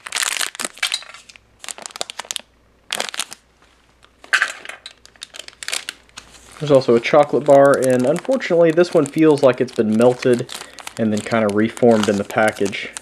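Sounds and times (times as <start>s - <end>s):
foil pouch crinkling: 0.0s - 13.0s.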